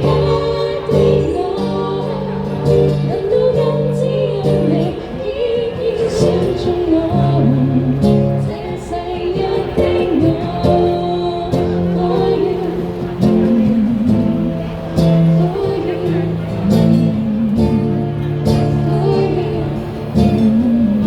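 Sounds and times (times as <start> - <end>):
person singing: 0.0 - 21.0
street band playing: 0.0 - 21.0.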